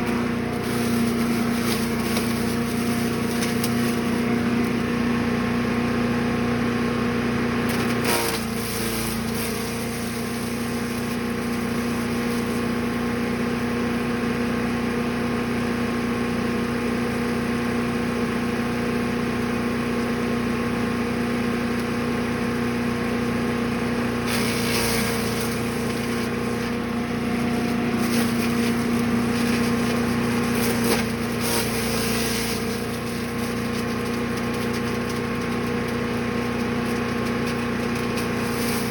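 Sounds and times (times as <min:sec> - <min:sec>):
chipper gas engine running: 0:00.0 - 0:38.9.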